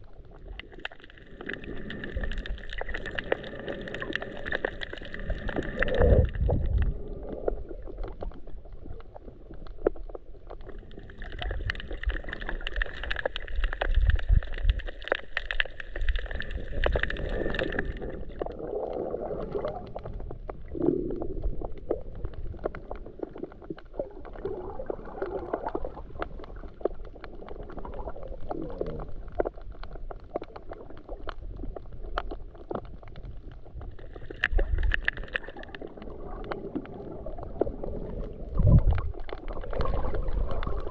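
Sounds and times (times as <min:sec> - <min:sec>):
deep underwater rumbles: 0:00.0 - 0:40.9
small underwater clicks: 0:00.0 - 0:40.9
underwater gurgling and sloshing: 0:00.0 - 0:40.9.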